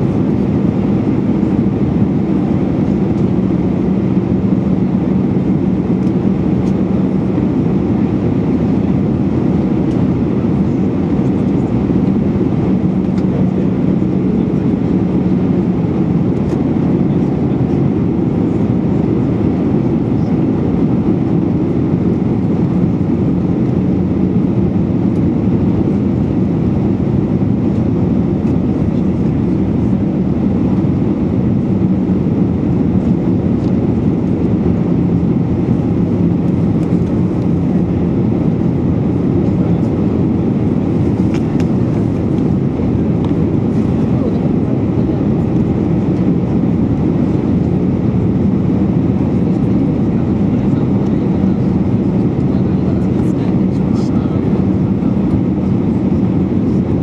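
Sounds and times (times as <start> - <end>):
air rushing past airliner cabin: 0.0 - 57.0
jet engines running: 0.0 - 57.0.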